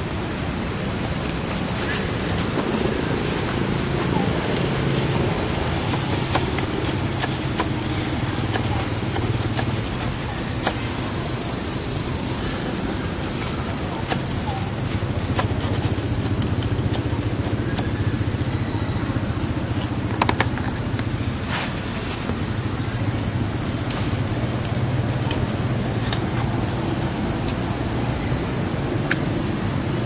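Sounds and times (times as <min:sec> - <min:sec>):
motor humming: 0:00.0 - 0:28.9.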